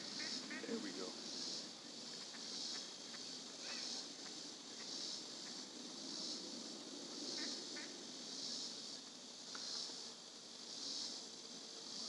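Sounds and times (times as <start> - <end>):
faint chirps: 0.0 - 12.0
insects buzzing in pulsing chorus: 0.0 - 12.0.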